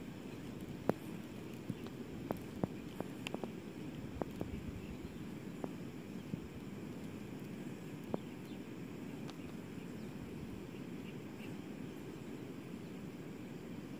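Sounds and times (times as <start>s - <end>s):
wind on microphone: 0.0s - 13.9s.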